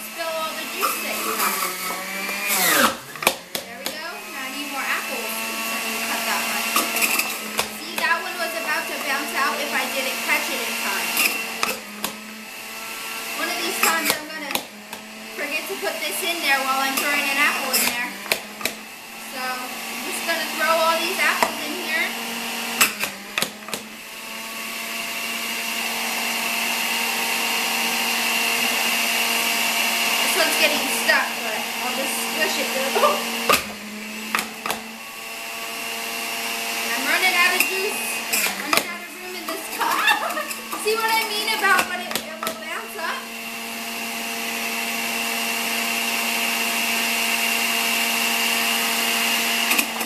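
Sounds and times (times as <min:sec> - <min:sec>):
juicer whining: 0:00.0 - 0:50.0.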